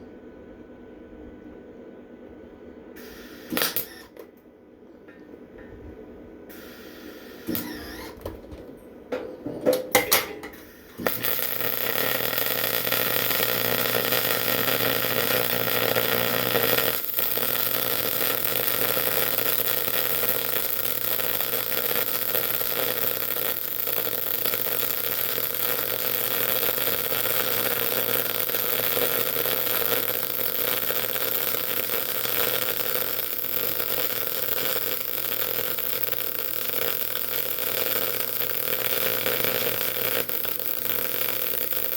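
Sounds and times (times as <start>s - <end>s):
welding arc hiss: 3.0s - 4.2s, 6.5s - 8.2s, 10.5s - 41.9s
welding arc sputters: 3.0s - 4.2s, 6.5s - 8.4s, 10.0s - 41.9s.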